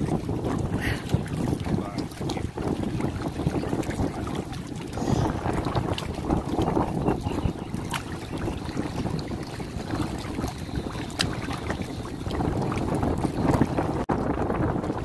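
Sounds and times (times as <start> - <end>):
small splashes: 0.0 - 13.9
shallow water sloshing: 0.0 - 15.0
wind buffeting microphone: 0.0 - 15.0.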